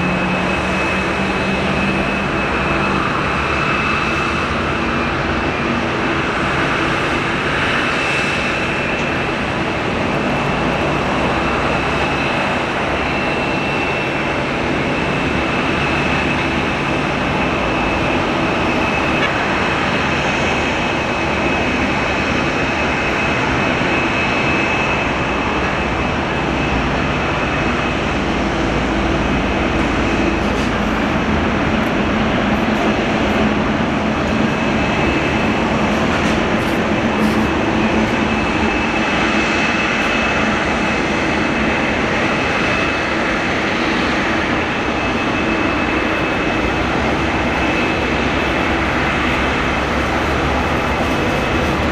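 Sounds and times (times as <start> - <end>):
jet engines rumbling: 0.0 - 51.9
high fan whine: 8.4 - 51.9.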